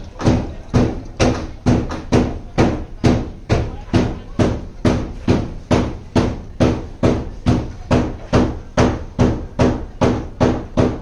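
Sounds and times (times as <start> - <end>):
rhythmic knocking with ringing tail: 0.0 - 11.0.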